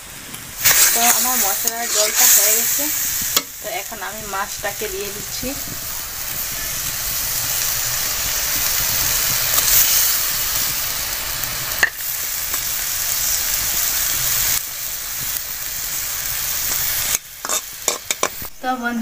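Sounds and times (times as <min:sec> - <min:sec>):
water boiling hard in a pan: 0:00.0 - 0:19.0.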